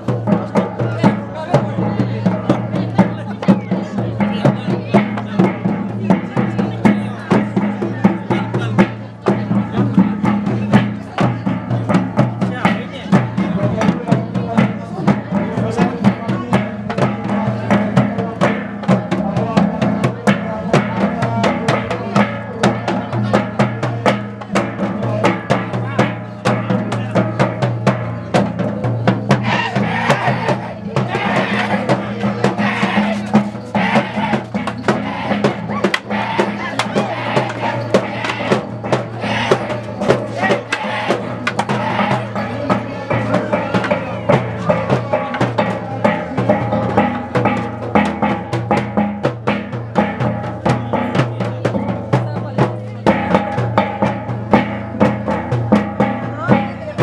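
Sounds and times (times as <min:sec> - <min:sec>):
barrel drum beaten with stick: 0:00.0 - 0:57.0.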